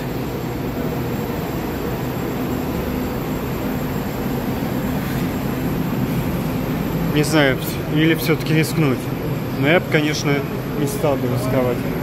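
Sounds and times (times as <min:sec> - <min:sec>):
metro train equipment humming: 0:00.0 - 0:12.0.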